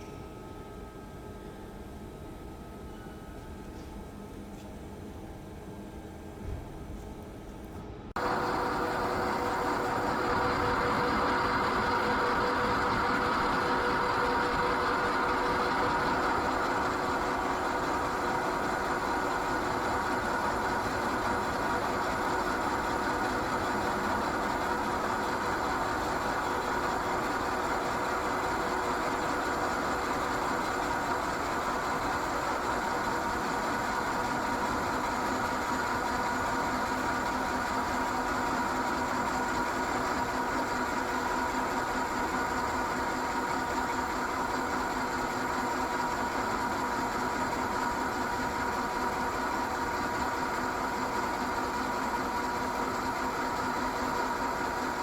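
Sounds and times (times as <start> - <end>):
milling machine humming: 8.2 - 55.0.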